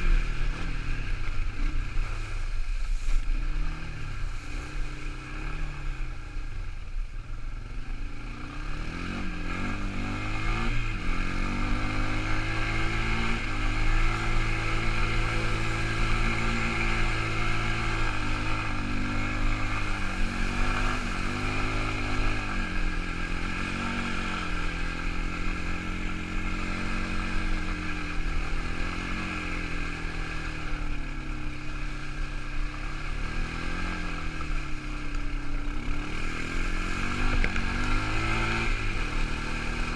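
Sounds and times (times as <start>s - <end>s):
quad bike engine revving: 0.0s - 6.7s, 7.6s - 39.9s.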